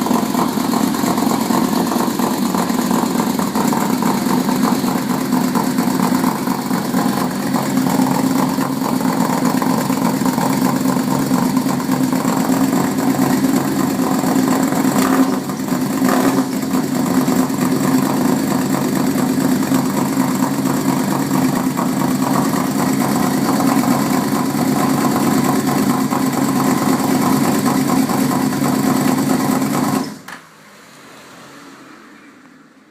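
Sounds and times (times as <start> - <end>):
motorcycle engine idling: 0.0 - 30.1.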